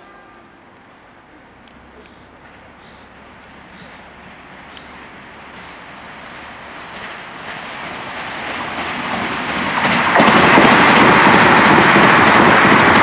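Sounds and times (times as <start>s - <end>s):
high-speed train rushing past: 0.0s - 13.0s.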